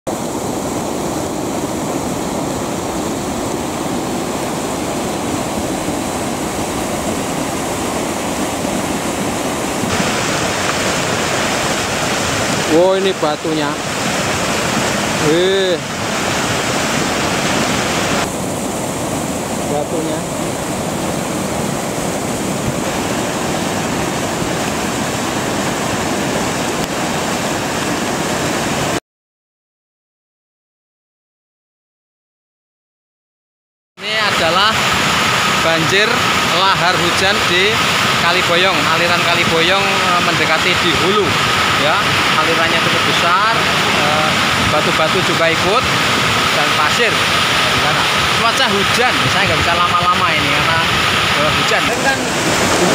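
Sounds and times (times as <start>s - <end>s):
roar of churning flood water: 0.1s - 29.0s, 34.0s - 52.9s.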